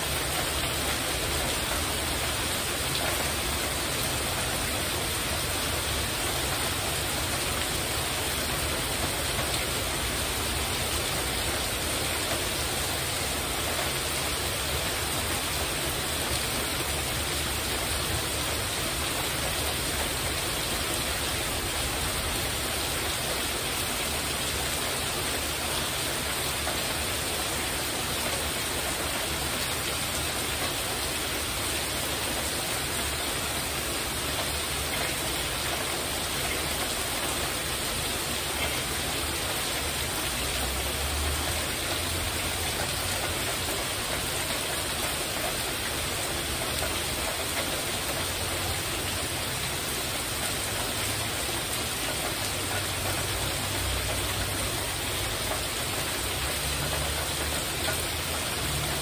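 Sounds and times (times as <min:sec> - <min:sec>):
heavy rain on a roof: 0:00.0 - 0:59.0.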